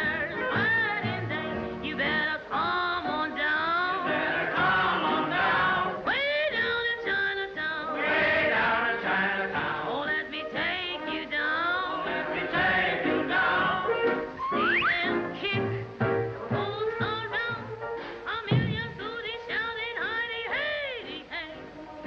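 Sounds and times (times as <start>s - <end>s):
cartoon music with voices singing: 0.0s - 17.7s, 19.2s - 22.0s.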